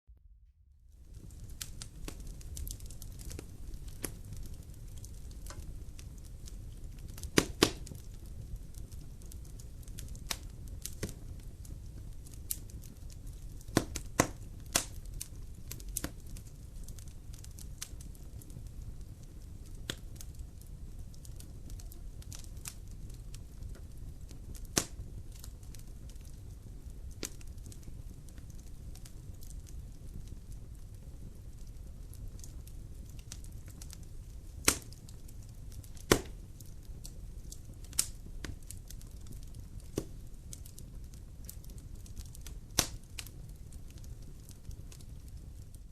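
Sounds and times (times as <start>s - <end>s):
low rumble of fire: 0.6s - 45.9s
wood fire crackling: 0.8s - 45.9s.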